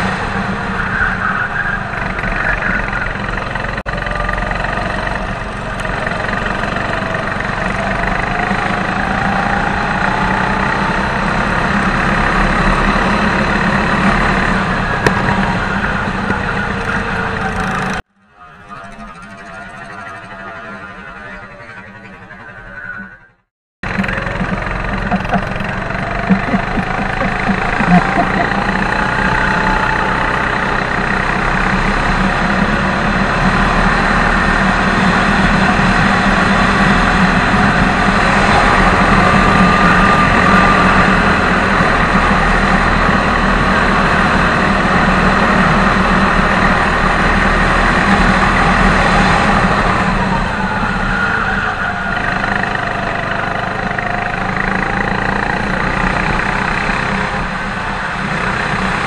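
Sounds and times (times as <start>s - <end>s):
go-kart engine running: 0.0s - 59.0s.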